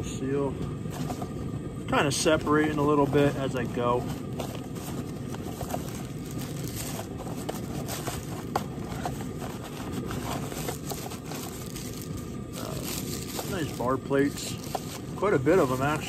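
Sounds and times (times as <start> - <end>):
low background rumble: 0.0 - 16.0
paper and cardboard rustling: 0.9 - 1.3, 2.1 - 16.0.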